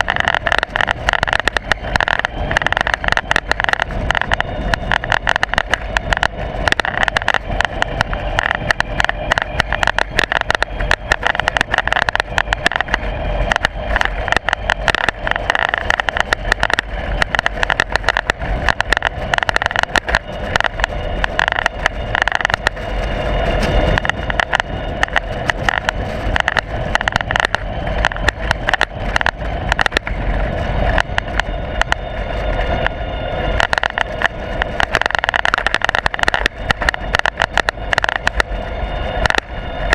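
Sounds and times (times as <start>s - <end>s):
camera rattling and knocking: 0.0s - 39.9s
road noise rumble: 0.0s - 39.9s.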